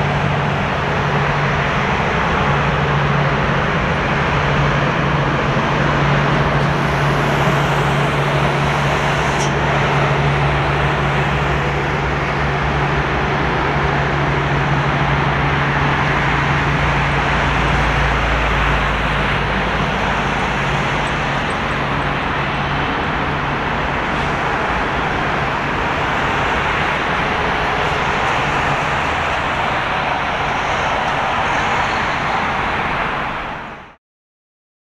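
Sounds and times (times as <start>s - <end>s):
jet engines at taxi power: 0.0s - 34.0s.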